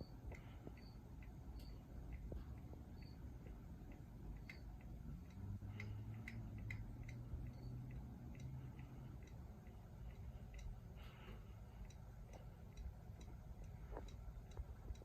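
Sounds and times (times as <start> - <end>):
ceiling fan rumble: 0.0 - 15.0
light ticks: 0.0 - 15.0.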